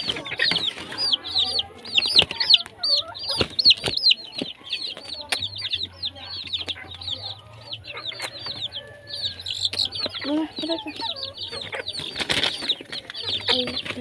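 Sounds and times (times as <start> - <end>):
baby chicks peeping: 0.0 - 14.0.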